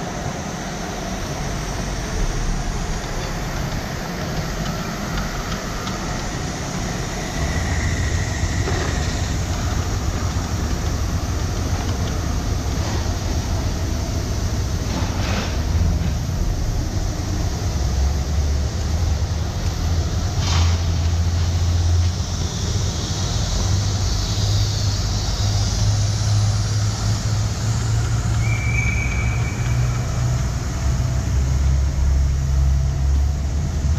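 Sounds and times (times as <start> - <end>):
low rumble in a large hall: 0.0 - 33.9.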